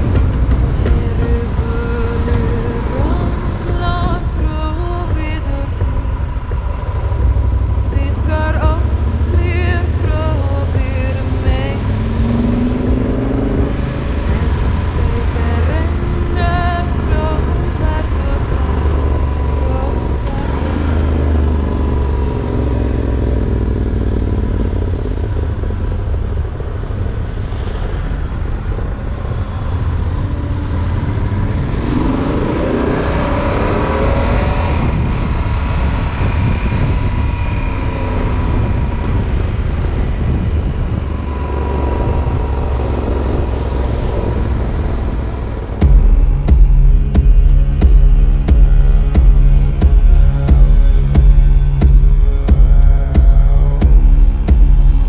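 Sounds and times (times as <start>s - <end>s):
motorcycle engine running: 0.0s - 55.0s
wind noise rushing: 0.0s - 55.0s.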